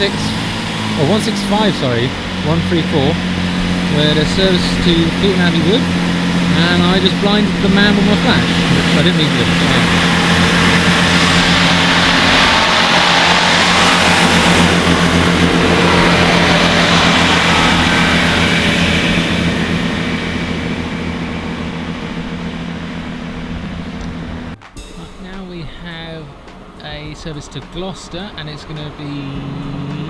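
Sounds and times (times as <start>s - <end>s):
diesel train engines humming: 0.0s - 30.0s
train rushing past: 0.0s - 30.0s.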